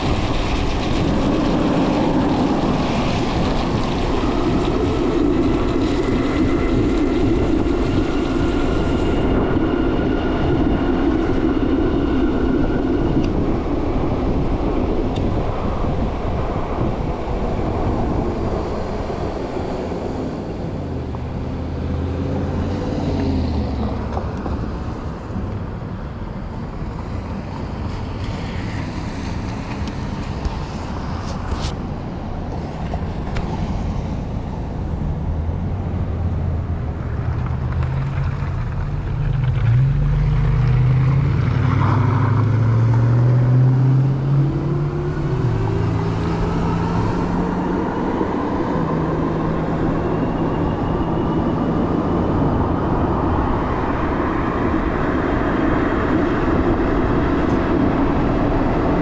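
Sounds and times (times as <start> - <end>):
road rumble: 0.0 - 59.0
wind buffeting microphone: 0.0 - 59.0.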